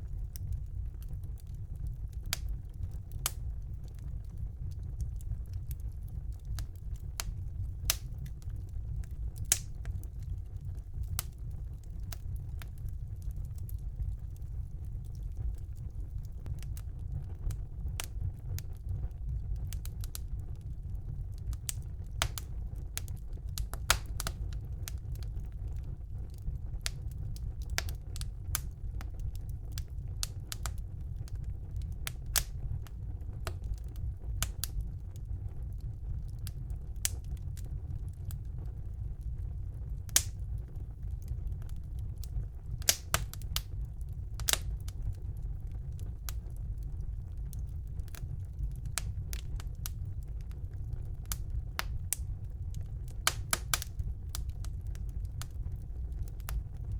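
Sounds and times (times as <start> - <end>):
fireplace fire crackling: 0.0 - 56.9.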